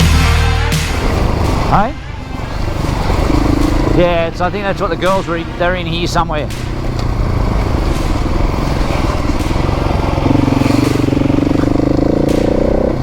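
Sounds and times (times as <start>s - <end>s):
motorcycle engine under throttle: 0.9s - 13.0s.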